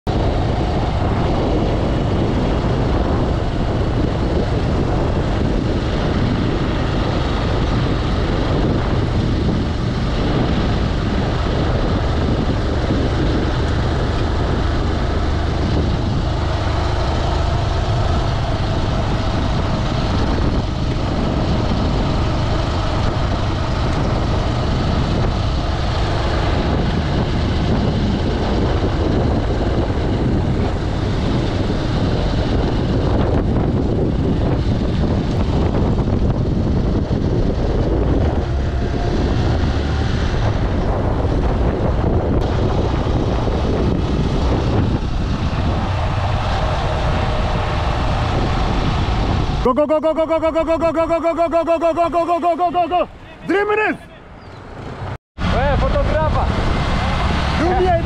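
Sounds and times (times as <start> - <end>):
wind buffeting microphone: 0.0 - 58.0
tyres rolling on asphalt: 0.1 - 58.0.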